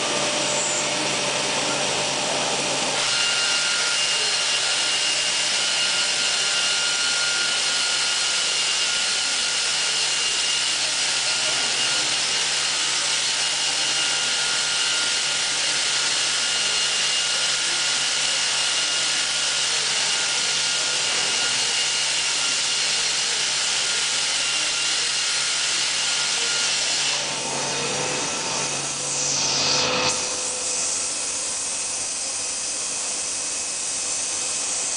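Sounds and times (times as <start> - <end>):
cnc router machining wood: 0.0 - 34.9.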